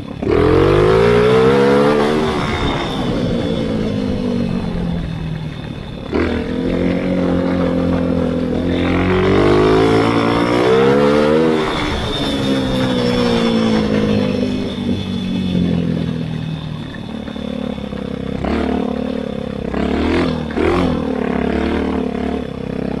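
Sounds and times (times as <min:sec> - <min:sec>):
kart engine running: 0:00.0 - 0:23.0.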